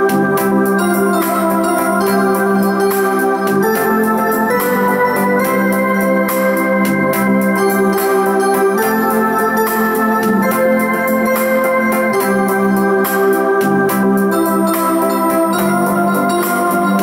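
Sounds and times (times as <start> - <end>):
keyboard backing rhythm: 0.0 - 17.0
organ-like keyboard melody: 0.0 - 17.0.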